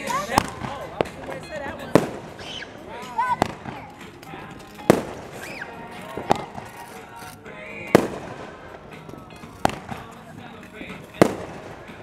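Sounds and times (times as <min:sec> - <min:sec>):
fireworks bangs: 0:00.0 - 0:07.1, 0:07.9 - 0:12.0.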